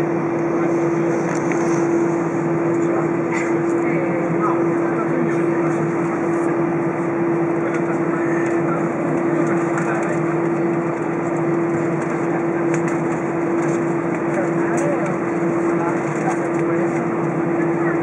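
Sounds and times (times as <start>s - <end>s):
constant low hum: 0.0s - 18.0s
aircraft cabin rushing noise: 0.6s - 17.9s.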